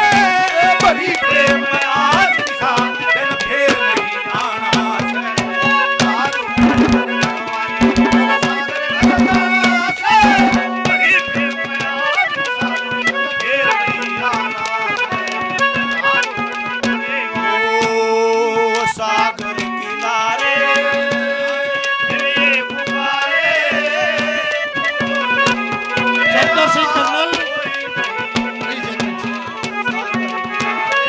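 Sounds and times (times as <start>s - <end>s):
hand drum rhythm: 0.0s - 31.0s
harmonium melody: 0.0s - 31.0s.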